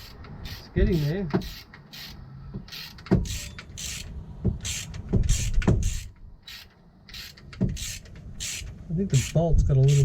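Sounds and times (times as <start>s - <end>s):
socket wrench ratcheting: 0.0s - 10.0s.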